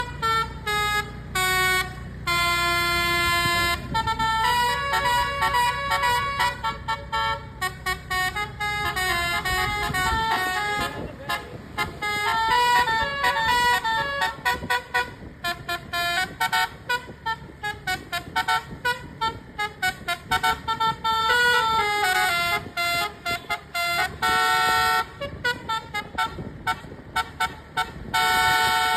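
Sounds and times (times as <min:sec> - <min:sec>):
musical bus air horns: 0:00.0 - 0:28.9.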